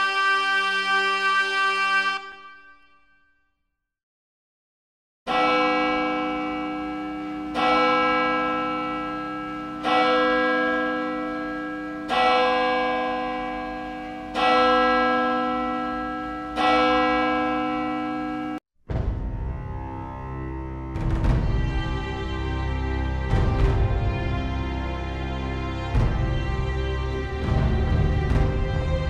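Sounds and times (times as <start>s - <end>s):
church bell tolling: 5.3s - 29.0s.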